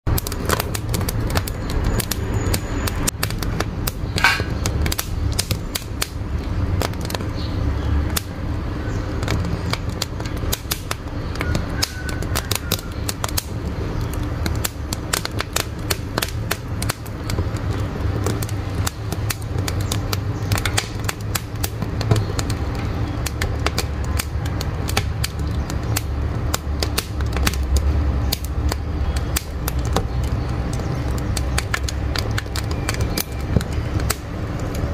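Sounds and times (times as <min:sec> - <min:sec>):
firewood crackling and popping: 0:00.0 - 0:34.9
low rumble of fire: 0:00.0 - 0:34.9.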